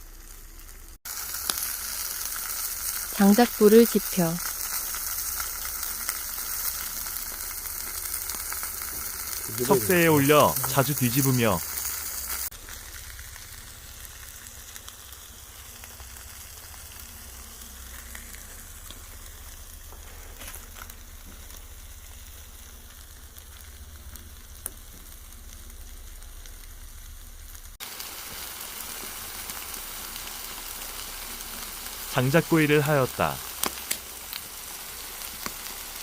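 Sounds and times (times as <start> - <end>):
chickens sizzling on grill: 0.0 - 36.0
sharp fire crackle: 0.0 - 36.0.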